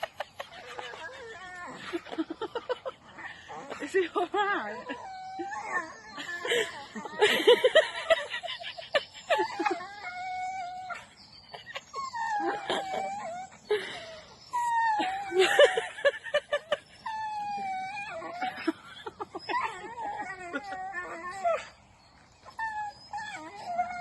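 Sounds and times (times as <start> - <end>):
animal whining calls: 0.0 - 24.0.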